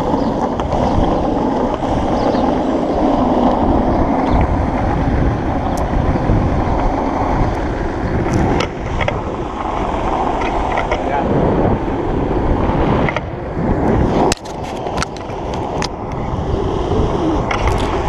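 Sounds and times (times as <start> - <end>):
skateboard wheels rolling on asphalt: 0.0 - 18.0.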